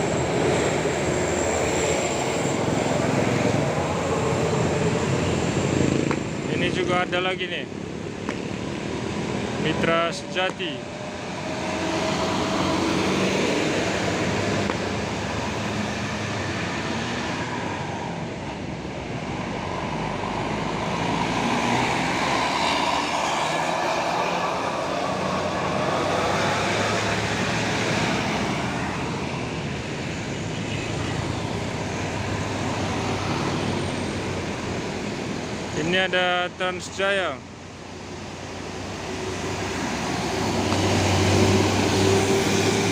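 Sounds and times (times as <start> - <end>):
diesel buses driving past: 0.0 - 42.9.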